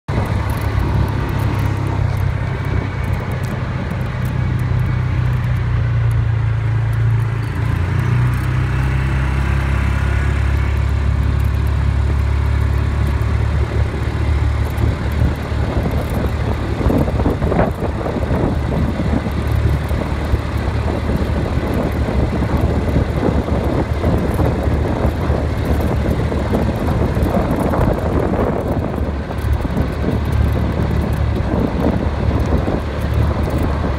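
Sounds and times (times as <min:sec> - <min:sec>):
vehicle engine drone: 0:00.0 - 0:33.9.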